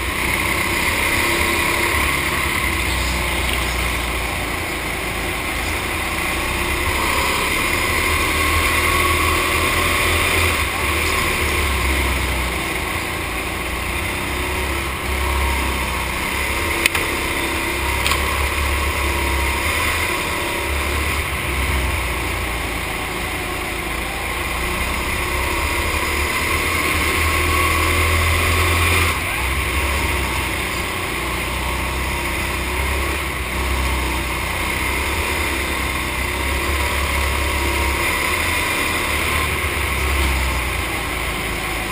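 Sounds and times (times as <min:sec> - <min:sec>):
go-kart engines running hard: 0:00.0 - 0:41.9.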